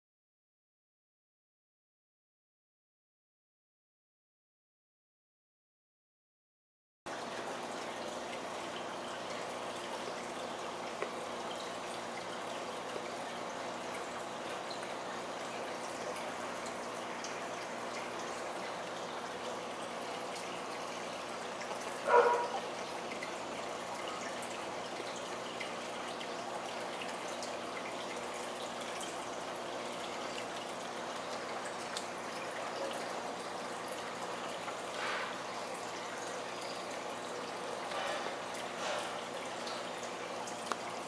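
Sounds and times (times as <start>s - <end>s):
water trickling and dripping: 7.1s - 41.0s.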